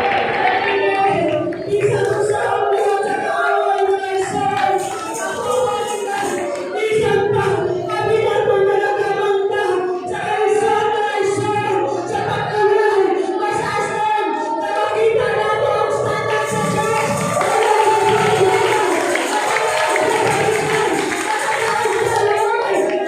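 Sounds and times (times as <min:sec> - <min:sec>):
choir singing gospel: 0:00.0 - 0:23.0.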